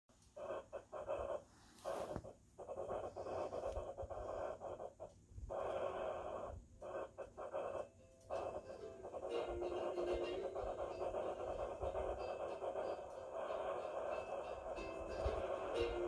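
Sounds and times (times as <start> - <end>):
crayon scribbling on paper: 0.4 - 16.0.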